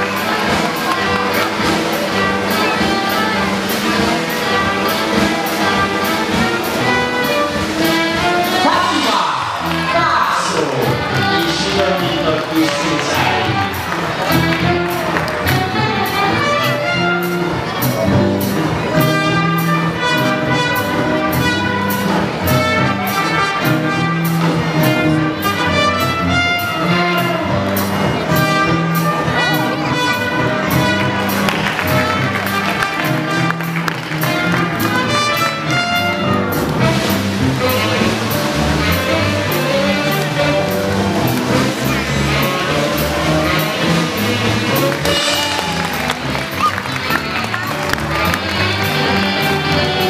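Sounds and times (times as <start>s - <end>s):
circus band music with brass: 0.0s - 50.0s.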